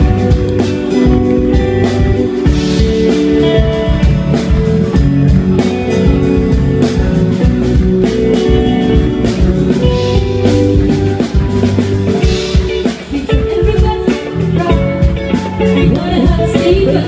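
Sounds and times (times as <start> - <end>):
drum beat: 0.0 - 17.0
live band playing pop song: 0.0 - 17.0
strummed guitars: 0.0 - 17.0.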